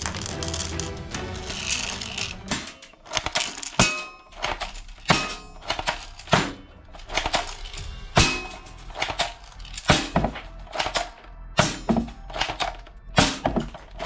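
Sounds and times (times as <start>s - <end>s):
plastic toy guns clattering: 0.0s - 7.9s, 8.5s - 14.0s.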